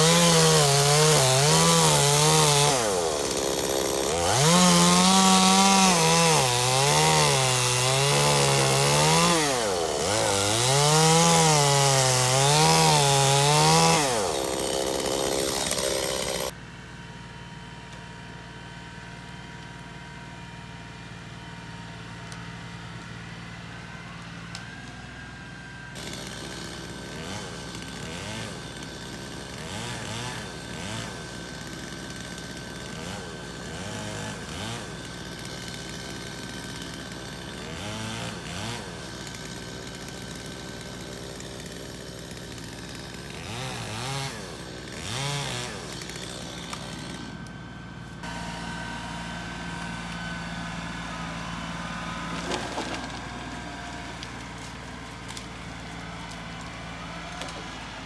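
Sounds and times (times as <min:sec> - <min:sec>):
chainsaw cutting wood: 0:00.0 - 0:17.0, 0:17.7 - 0:58.0.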